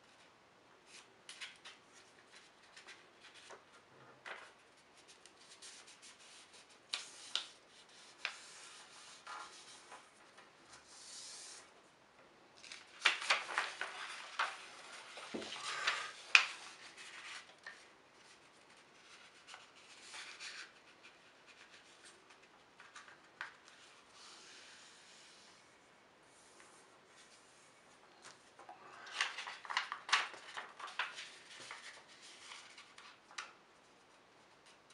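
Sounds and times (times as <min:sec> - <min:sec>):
paper being folded and creased: 0:00.9 - 0:11.6, 0:12.6 - 0:25.4, 0:28.2 - 0:33.6.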